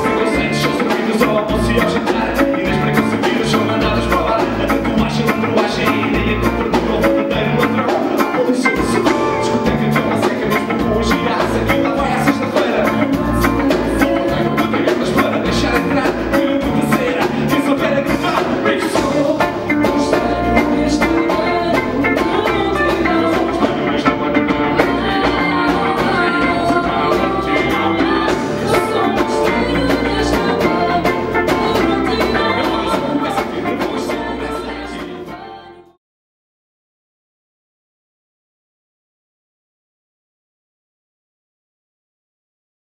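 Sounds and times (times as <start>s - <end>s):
drum kit: 0.0s - 35.9s
electric bass: 0.0s - 36.0s
electric guitar: 0.0s - 36.0s
keyboard: 0.0s - 36.0s
woman singing: 0.0s - 36.0s.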